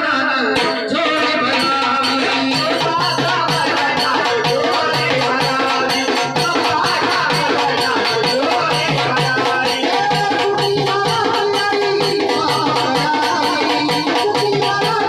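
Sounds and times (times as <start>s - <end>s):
quick percussion beat: 0.6s - 15.0s.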